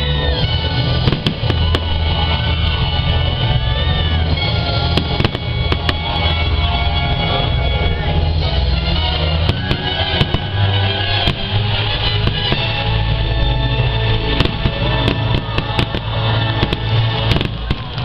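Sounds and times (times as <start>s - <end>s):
music over loudspeakers: 0.0s - 18.0s
fireworks bangs and crackles: 0.5s - 18.0s.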